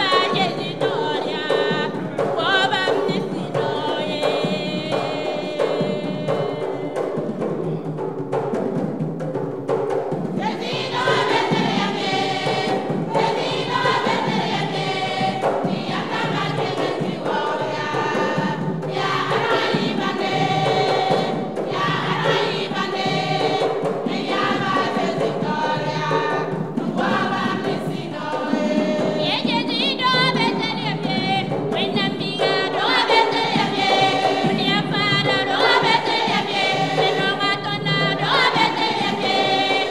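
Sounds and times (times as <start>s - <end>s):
women's choir singing: 0.0s - 7.6s, 10.4s - 39.9s.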